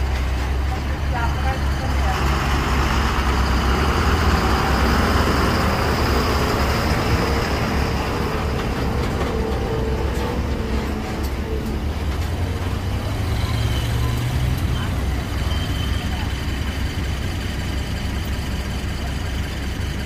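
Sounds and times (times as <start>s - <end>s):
heavy vehicle engine rumbling: 0.0s - 20.0s
road traffic: 0.0s - 20.0s.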